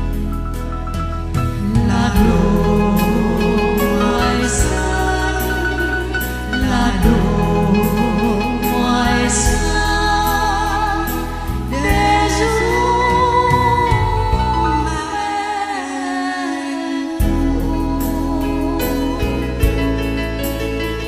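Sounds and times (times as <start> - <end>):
women singing a slow ballad: 1.6 - 20.7.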